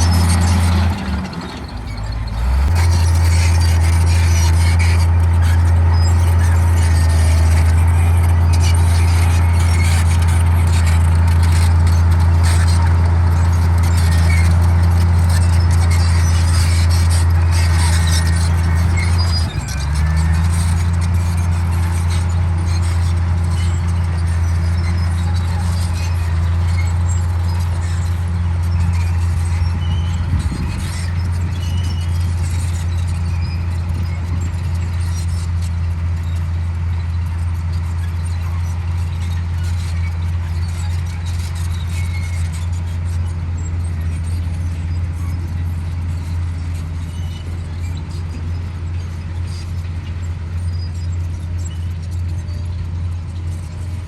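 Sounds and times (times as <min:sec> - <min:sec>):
bulldozer diesel engine droning: 0:00.0 - 0:54.0
faint short squeaks: 0:00.0 - 0:54.0.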